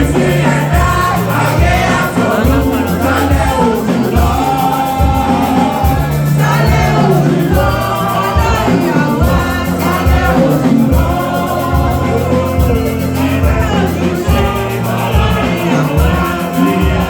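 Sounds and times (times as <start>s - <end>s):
choir singing gospel song: 0.0s - 17.0s.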